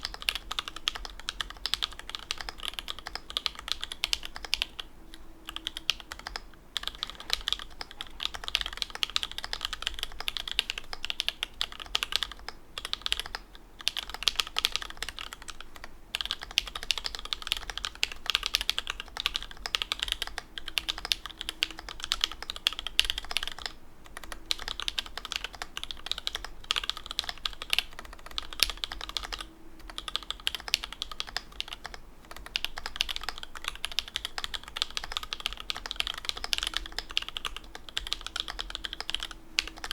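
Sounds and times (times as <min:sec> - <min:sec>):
fast typing on mechanical keyboard: 0:00.0 - 0:04.9, 0:05.5 - 0:39.9.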